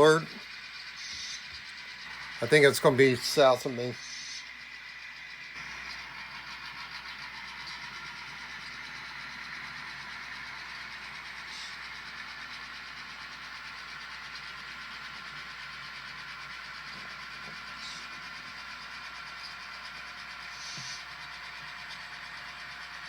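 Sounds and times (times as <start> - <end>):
model diesel locomotive running: 0.0 - 23.0.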